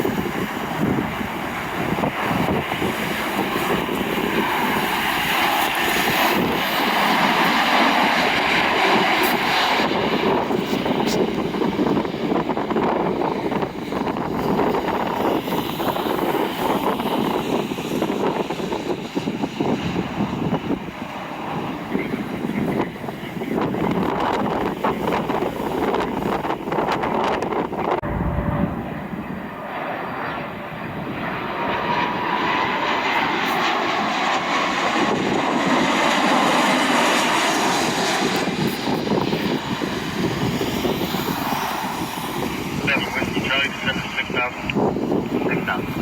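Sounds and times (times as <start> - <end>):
jet engines rushing past: 0.0 - 46.0.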